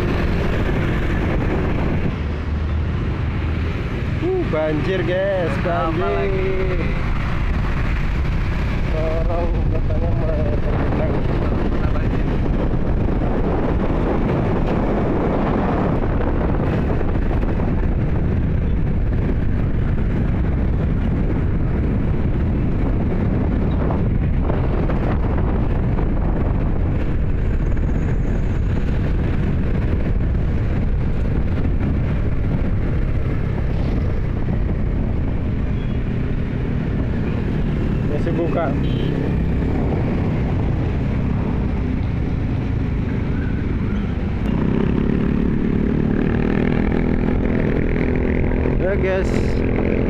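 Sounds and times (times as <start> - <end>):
motorcycle road noise on wet street: 0.0 - 50.0
wind rushing on microphone: 0.0 - 50.0.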